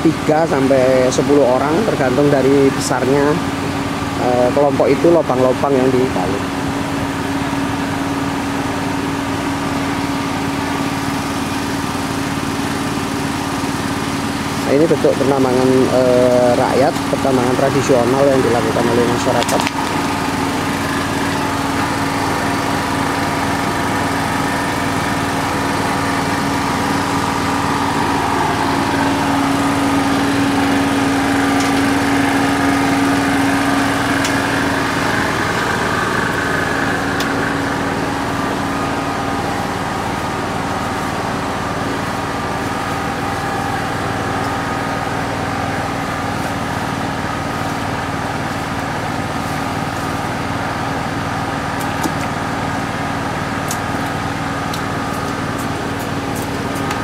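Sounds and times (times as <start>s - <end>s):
small engine humming: 0.0s - 57.0s.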